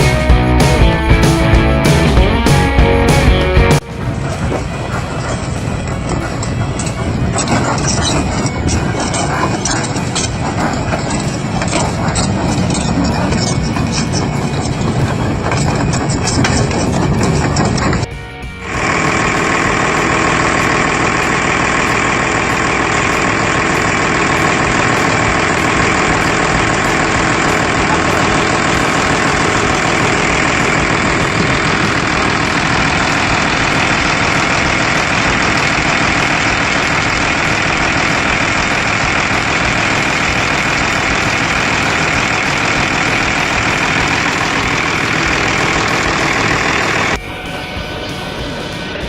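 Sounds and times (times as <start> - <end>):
heavy machine engine running: 0.0 - 49.0.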